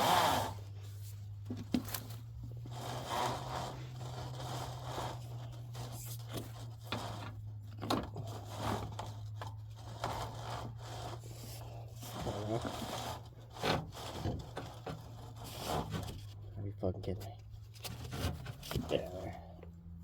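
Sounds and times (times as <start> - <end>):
cable scraping inside drain pipe: 0.0 - 16.4.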